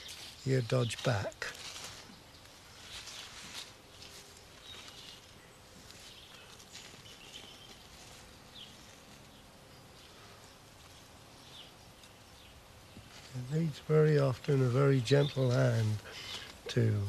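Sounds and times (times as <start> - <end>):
soil rustling by hand: 0.0 - 12.2, 12.9 - 17.0.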